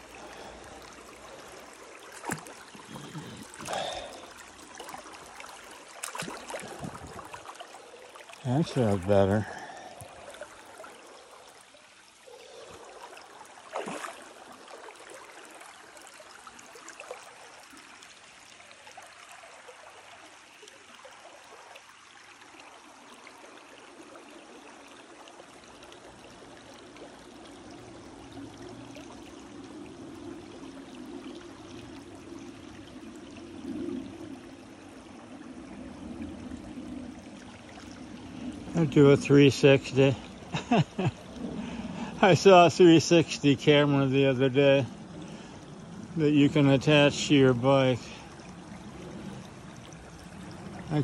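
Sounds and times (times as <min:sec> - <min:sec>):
creek water trickling over rocks: 0:00.0 - 0:51.0.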